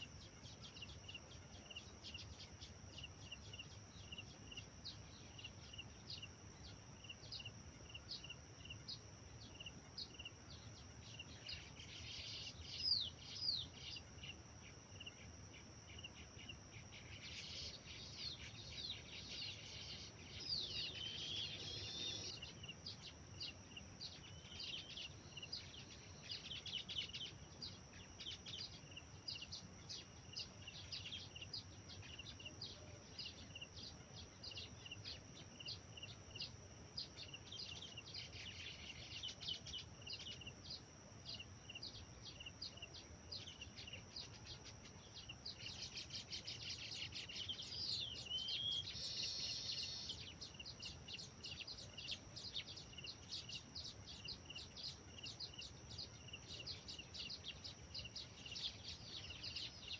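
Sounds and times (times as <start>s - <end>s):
small birds chirping: 0.0s - 59.9s
high-pitched hum: 0.1s - 59.9s.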